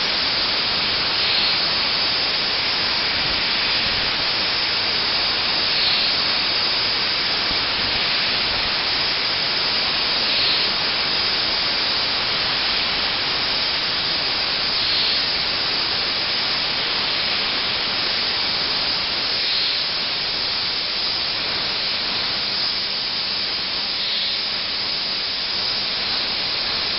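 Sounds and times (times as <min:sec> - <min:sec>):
milling machine hiss: 0:00.0 - 0:26.9.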